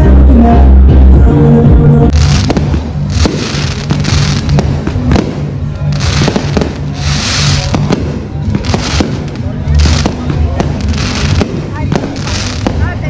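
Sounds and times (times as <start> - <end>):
music with bass beat: 0.0 - 12.8
fireworks bangs and crackling: 2.1 - 13.0.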